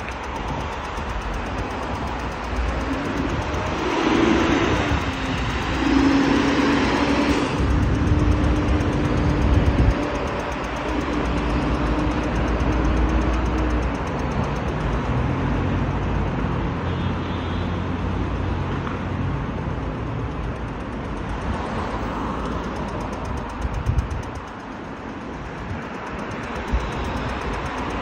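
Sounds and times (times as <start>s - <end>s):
cars passing: 0.0s - 28.0s
engine and tyre noise: 0.0s - 28.0s.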